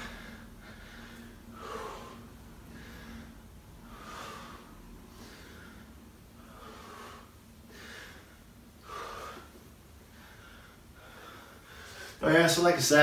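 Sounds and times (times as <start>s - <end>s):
man breathing hard: 0.0s - 12.2s.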